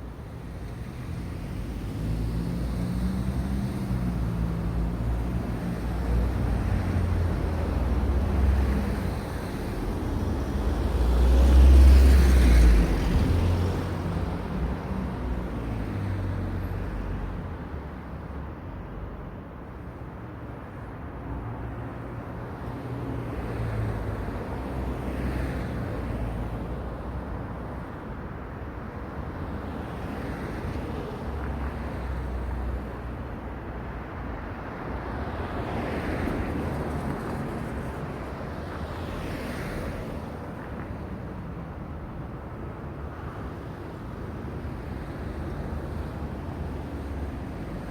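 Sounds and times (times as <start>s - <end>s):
cars passing: 0.0s - 19.0s, 19.7s - 47.9s
low rumble of traffic: 0.0s - 47.9s.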